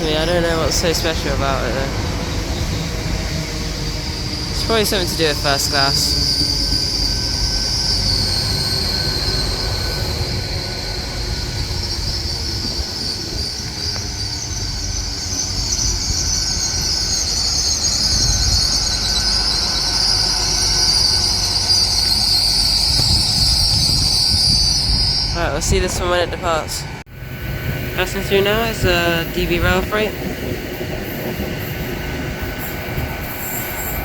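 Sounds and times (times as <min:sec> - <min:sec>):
train metallic squeal: 0:00.0 - 0:25.9, 0:27.2 - 0:34.0.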